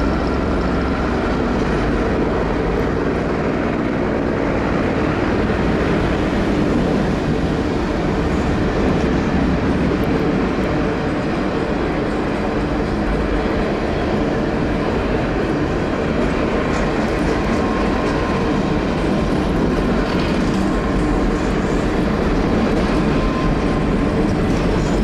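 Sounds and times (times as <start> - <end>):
locomotive engines rumbling: 0.0 - 25.0
train wheels rolling on rails: 0.0 - 25.0.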